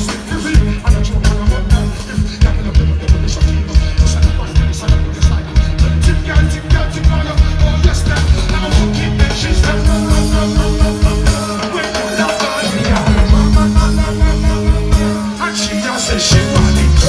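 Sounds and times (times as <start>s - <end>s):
live reggae band music: 0.0s - 17.0s.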